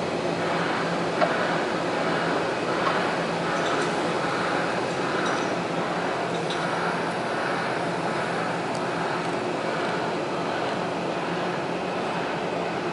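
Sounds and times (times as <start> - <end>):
crane diesel engine running: 0.0 - 12.9.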